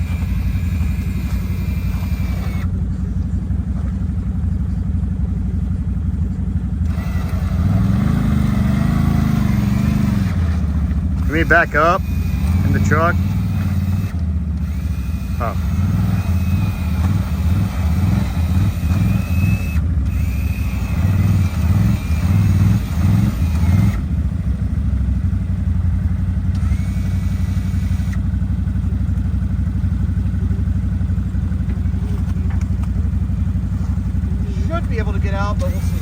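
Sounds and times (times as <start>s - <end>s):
vehicle engine revving: 0.0s - 36.0s.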